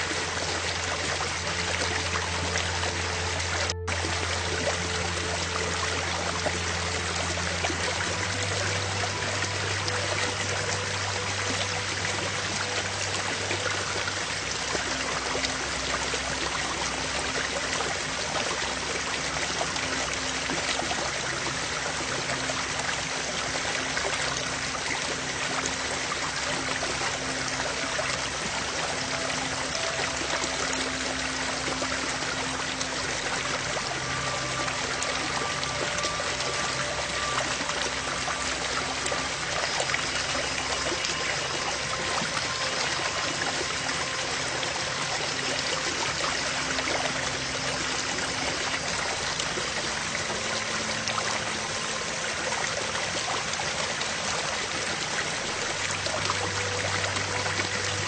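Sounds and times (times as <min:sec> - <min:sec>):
soft background music: 0:00.0 - 0:58.0.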